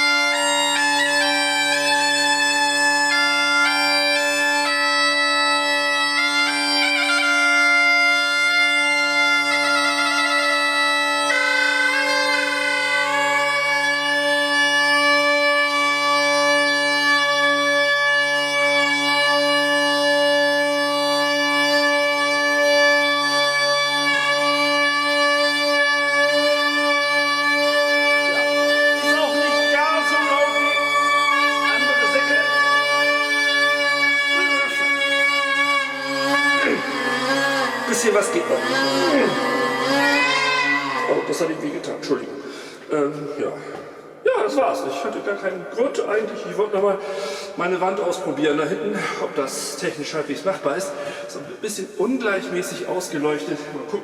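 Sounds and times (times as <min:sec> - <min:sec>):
bagpipe drones: 0:00.0 - 0:54.0
bagpipe melody: 0:00.0 - 0:54.0.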